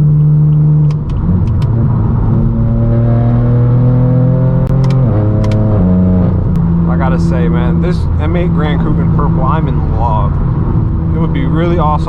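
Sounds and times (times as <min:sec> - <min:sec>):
car exhaust accelerating: 0:00.0 - 0:12.0.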